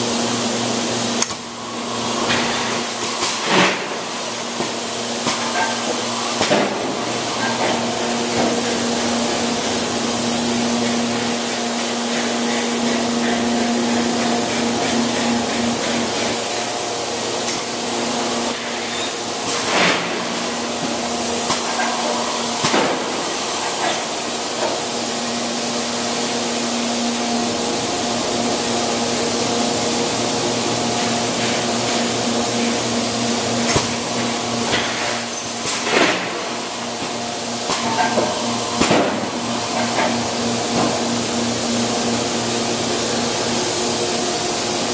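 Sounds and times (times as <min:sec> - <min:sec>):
machinery hiss: 0:00.0 - 0:44.9
machinery hum: 0:00.0 - 0:44.9.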